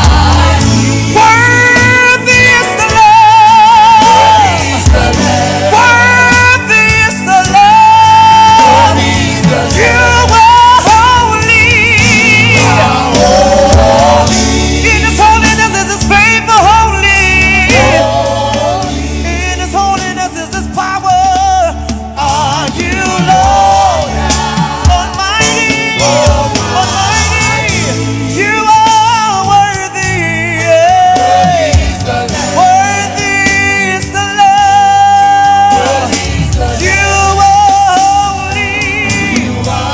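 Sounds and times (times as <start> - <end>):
gospel singing with band: 0.0 - 39.9.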